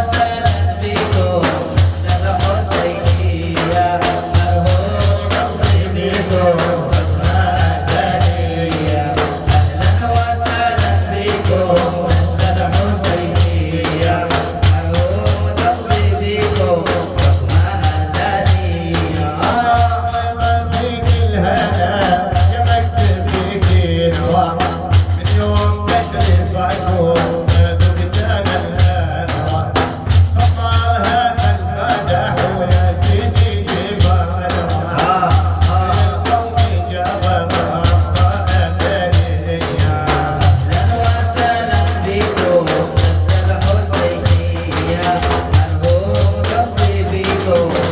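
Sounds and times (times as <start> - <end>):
frame drums beating: 0.0 - 47.9
person singing devotional song: 0.0 - 47.9.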